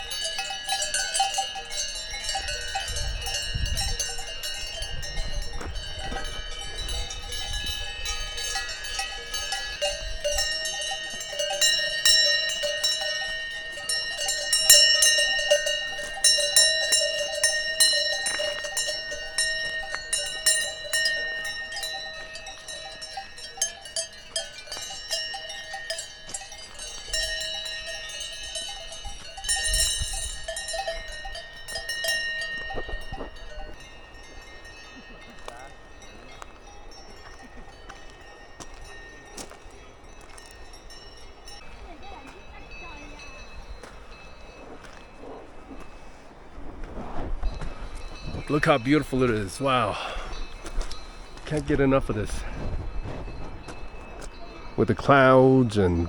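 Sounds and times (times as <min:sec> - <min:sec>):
cowbells ringing and clanking: 0:00.0 - 0:46.4, 0:47.4 - 0:56.0.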